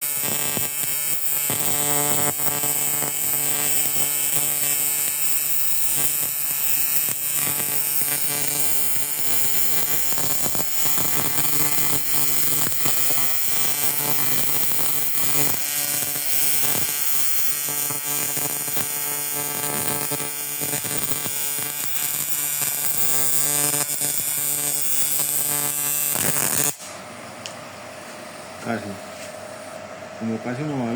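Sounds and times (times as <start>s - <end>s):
welding crackles: 0.0s - 26.9s
welding arc buzzing: 0.0s - 29.9s.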